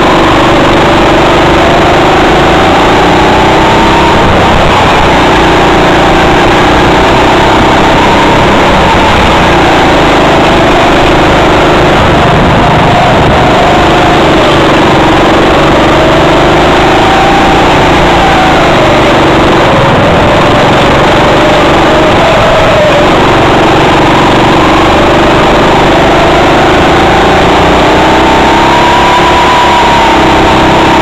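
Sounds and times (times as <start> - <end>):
go-kart engine running: 0.0 - 31.0.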